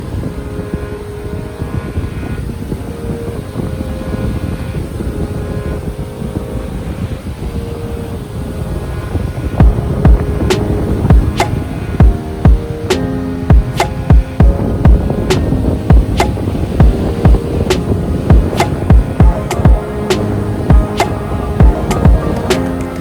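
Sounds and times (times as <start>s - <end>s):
faint steady tones: 0.0s - 23.0s
sea waves: 0.0s - 23.0s
wind buffeting microphone: 0.0s - 23.0s.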